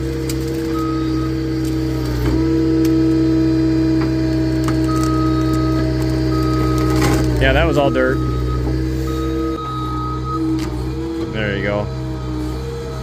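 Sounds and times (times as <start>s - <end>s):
log splitter hydraulic drone: 0.0s - 13.0s.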